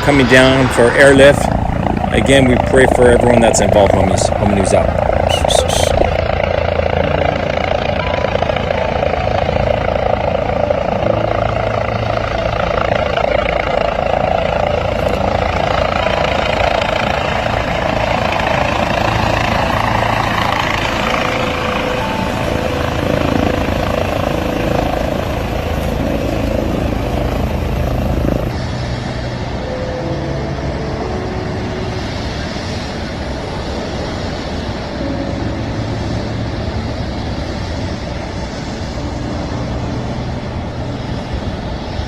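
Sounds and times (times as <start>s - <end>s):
helicopter rotor and turbine: 0.0s - 42.0s.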